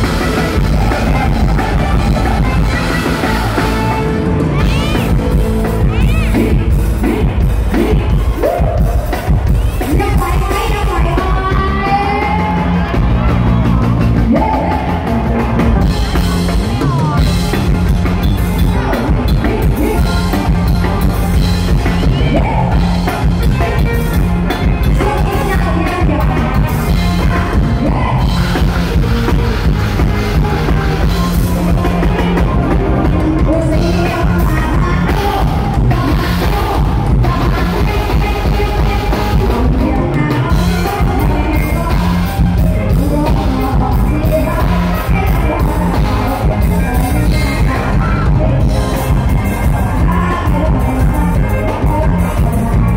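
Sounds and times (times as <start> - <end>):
drum kit: 0.0 - 52.9
live band playing: 0.0 - 52.9
person singing: 0.0 - 52.9
steady bass: 0.0 - 52.9.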